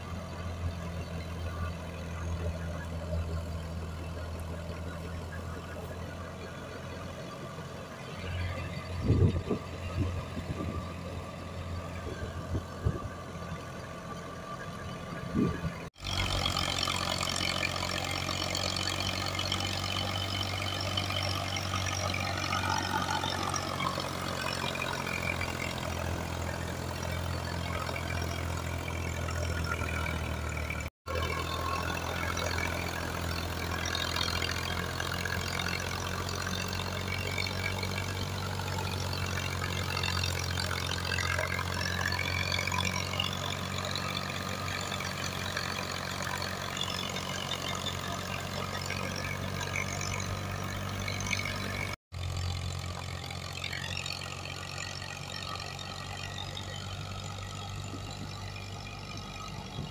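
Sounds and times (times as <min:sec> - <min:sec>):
diesel tractor engine drone: 0:00.0 - 0:59.9.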